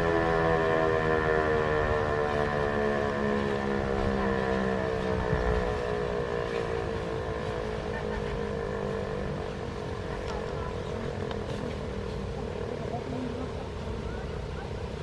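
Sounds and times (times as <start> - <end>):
warning siren winding down: 0.0 - 12.8
wind rumbling on microphone: 0.0 - 15.0.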